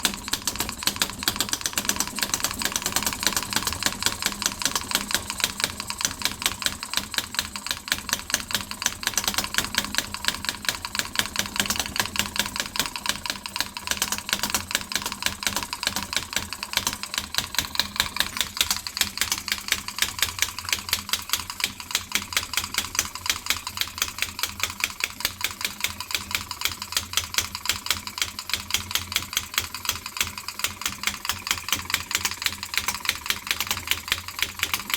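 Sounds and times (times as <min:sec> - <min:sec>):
gas engine clicking beat: 0:00.0 - 0:34.9.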